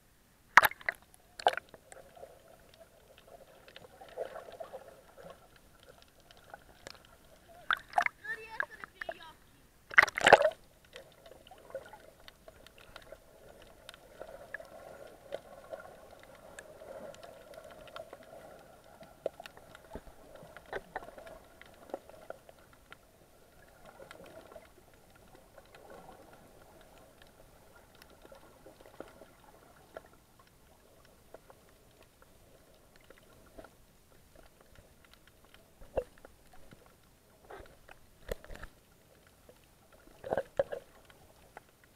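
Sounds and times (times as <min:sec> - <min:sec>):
sharp clicks and crackles: 0:00.5 - 0:09.2, 0:09.9 - 0:41.9.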